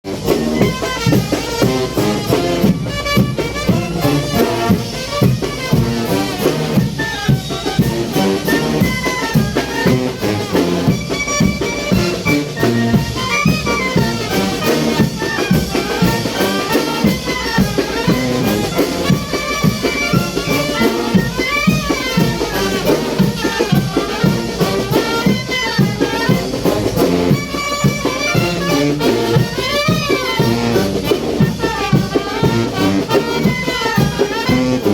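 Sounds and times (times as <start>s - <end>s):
brass band playing: 0.0s - 34.9s
steady drum beat: 0.0s - 34.9s.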